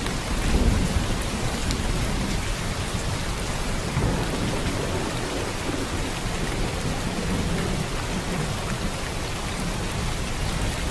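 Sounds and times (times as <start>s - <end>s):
rain falling: 0.0s - 10.9s.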